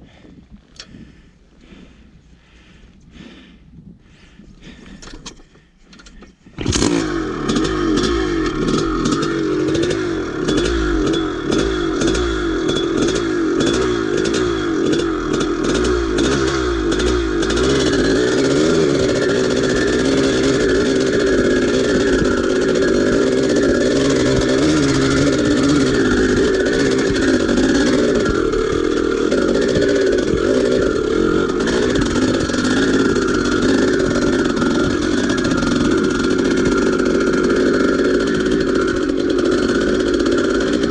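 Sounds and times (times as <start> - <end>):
dirt bike engine under load: 0.1 - 40.9
engine clattering: 4.7 - 40.9.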